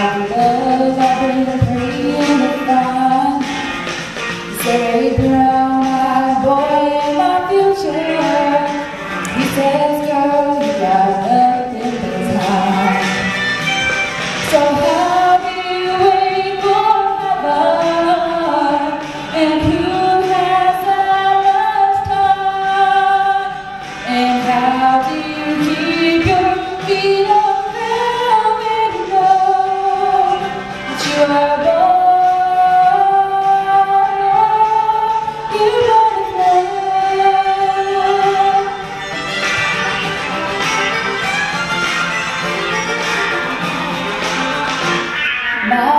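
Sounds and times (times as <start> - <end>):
woman singing into a microphone: 0.0 - 13.4, 14.4 - 39.1, 45.5 - 45.9.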